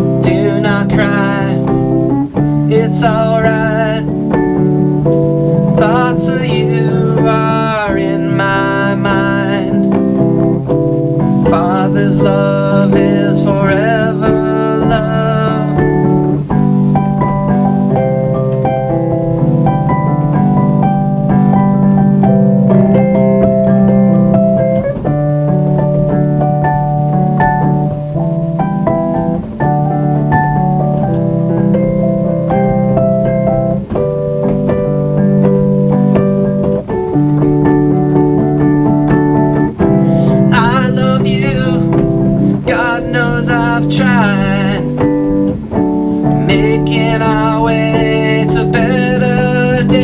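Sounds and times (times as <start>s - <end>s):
slow keyboard piano music: 0.0s - 50.0s.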